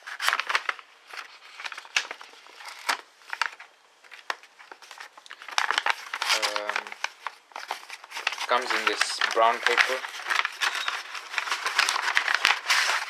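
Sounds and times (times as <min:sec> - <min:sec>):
paper envelope crinkling: 0:00.0 - 0:13.0.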